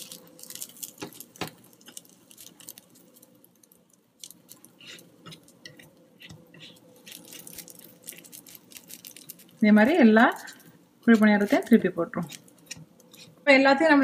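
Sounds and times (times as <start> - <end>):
hot oil crackling: 0.0 - 13.5.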